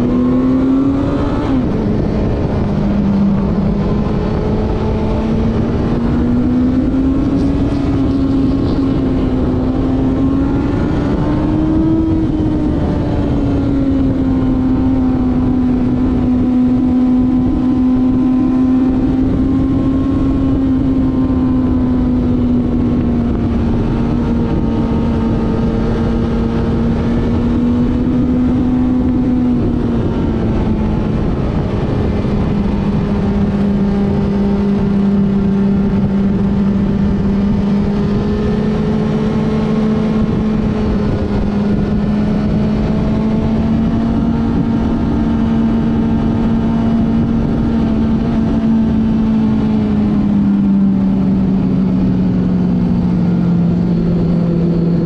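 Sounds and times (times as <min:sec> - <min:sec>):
motorcycle engine at high revs: 0:00.0 - 0:55.0
wind and road rush: 0:00.0 - 0:55.0.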